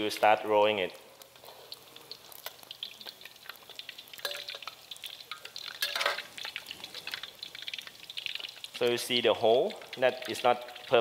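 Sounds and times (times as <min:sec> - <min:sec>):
omelet sizzling in oil: 0:00.0 - 0:11.0.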